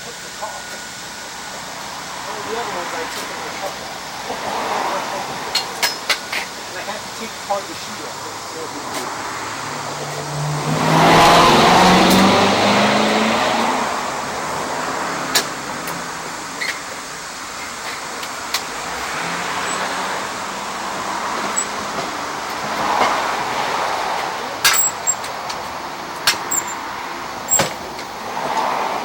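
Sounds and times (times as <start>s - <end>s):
vehicles driving past: 0.0s - 29.0s.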